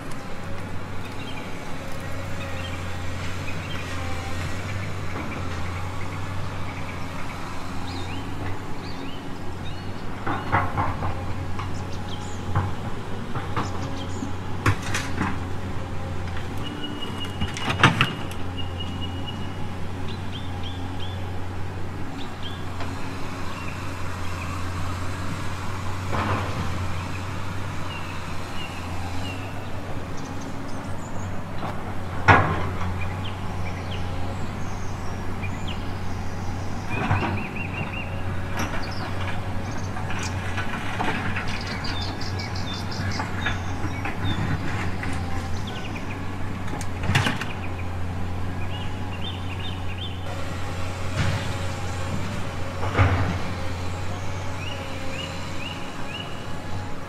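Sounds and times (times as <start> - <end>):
model excavator low hum: 0.0 - 57.0.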